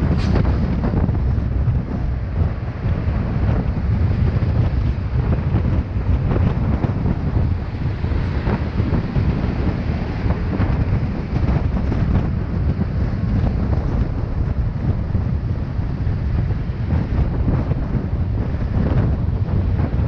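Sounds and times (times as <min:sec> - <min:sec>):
motorcycle ride noise: 0:00.0 - 0:20.0
wind buffeting microphone: 0:00.0 - 0:20.0.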